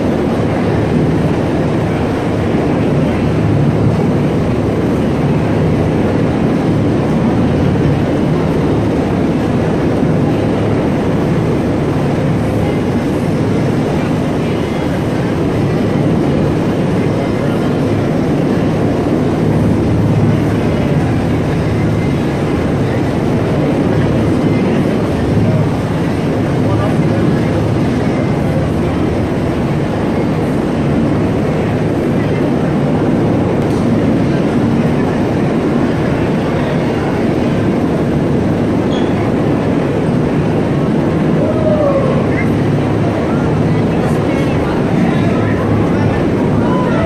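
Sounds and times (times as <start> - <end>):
helicopter rotor hovering: 0.0 - 47.0.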